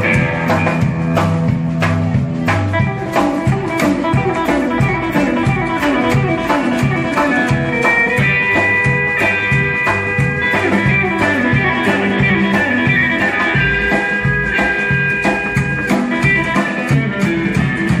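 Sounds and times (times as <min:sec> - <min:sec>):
drum kit with cymbals: 0:00.0 - 0:18.0
electric guitar bending notes: 0:00.0 - 0:18.0
upright bass walking: 0:00.0 - 0:18.0.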